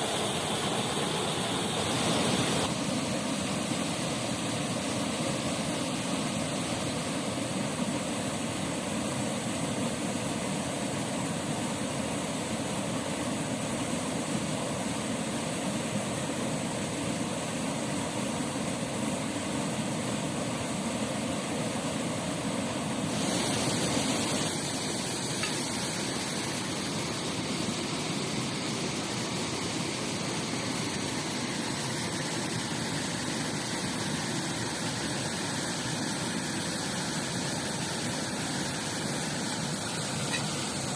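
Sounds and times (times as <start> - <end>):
river and waterfall rushing: 0.0 - 40.9.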